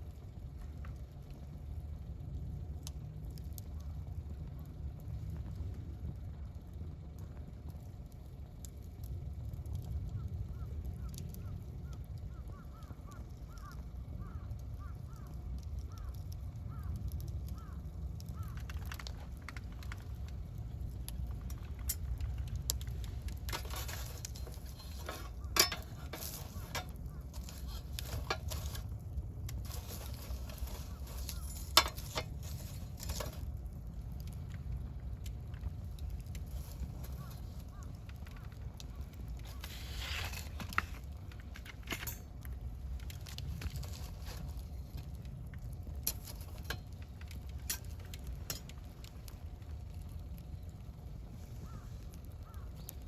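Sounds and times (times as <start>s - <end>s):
campfire crackling: 0.0s - 53.0s
fire popping: 0.0s - 53.0s.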